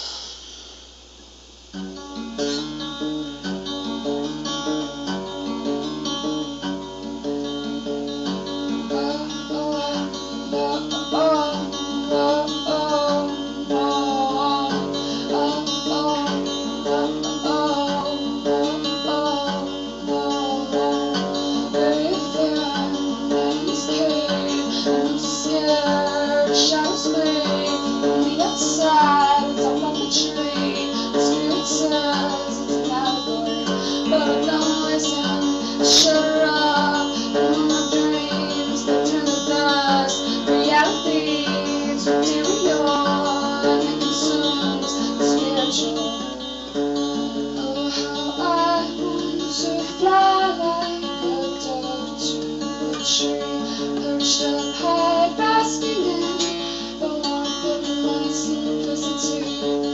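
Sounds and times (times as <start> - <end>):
acoustic guitar strumming: 0.0 - 59.9
person singing: 7.3 - 59.9.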